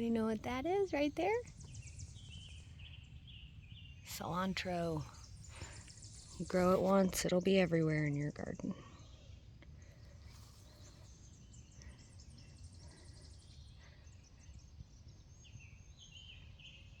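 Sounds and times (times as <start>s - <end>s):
distant birds singing: 0.0s - 17.0s.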